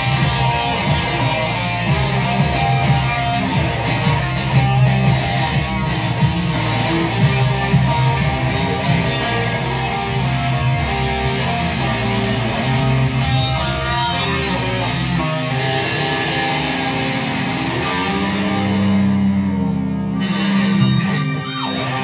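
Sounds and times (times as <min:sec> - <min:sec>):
deep bass: 0:00.0 - 0:21.4
electric guitar with effects: 0:00.0 - 0:22.0.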